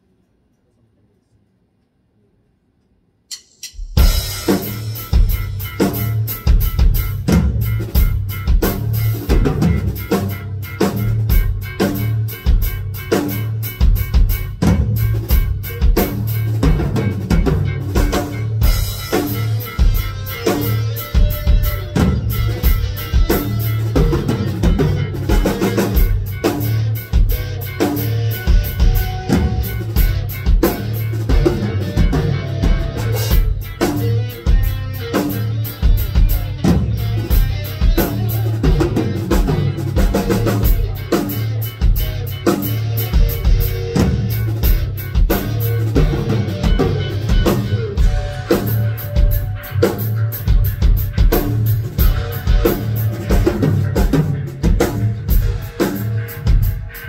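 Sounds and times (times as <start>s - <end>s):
busy drum kit: 3.3s - 57.0s
electric guitar parts: 3.3s - 57.0s
pulsing bass line: 4.0s - 57.0s.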